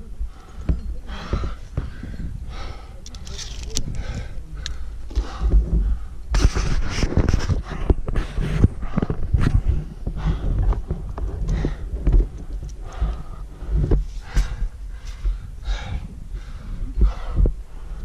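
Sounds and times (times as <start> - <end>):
heavy labored breathing: 0.0 - 18.0
climbing hardware clicking on rock: 0.3 - 18.0.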